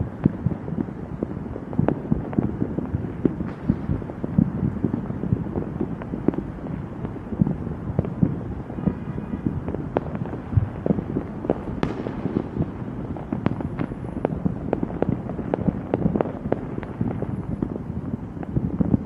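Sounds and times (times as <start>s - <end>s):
fireworks popping and banging: 0.0s - 19.0s.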